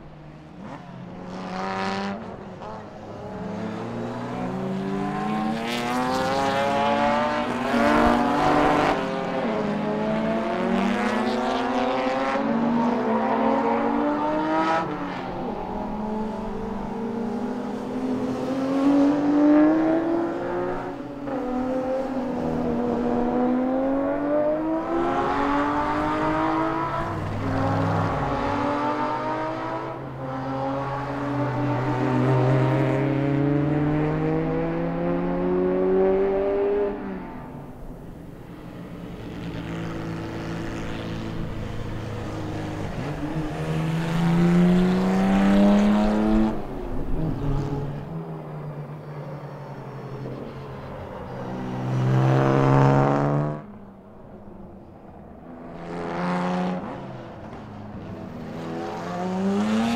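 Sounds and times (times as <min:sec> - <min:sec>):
racing car engines at full throttle: 0:00.0 - 0:59.9.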